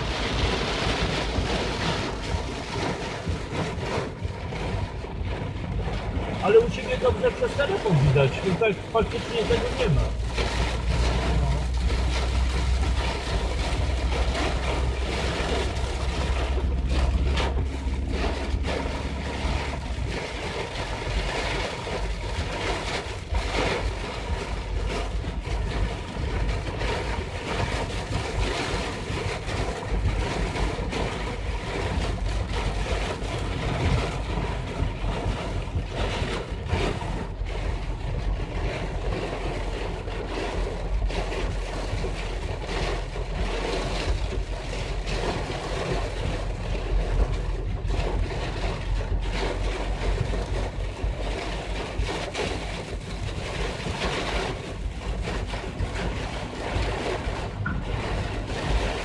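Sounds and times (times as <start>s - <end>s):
heavy rain drumming on car roof: 0.0s - 59.0s
low road rumble: 0.0s - 59.0s.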